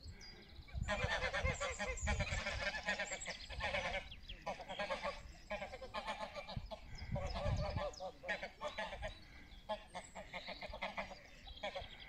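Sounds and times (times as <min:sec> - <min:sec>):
geese honking: 0:00.8 - 0:12.0.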